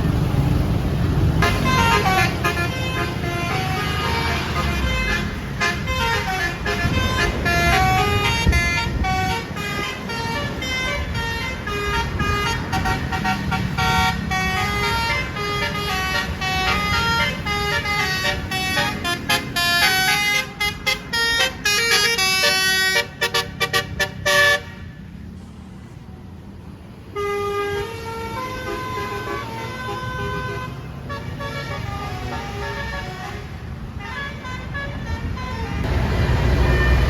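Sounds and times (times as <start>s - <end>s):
bus air horn melody: 1.3s - 25.0s, 27.1s - 37.0s.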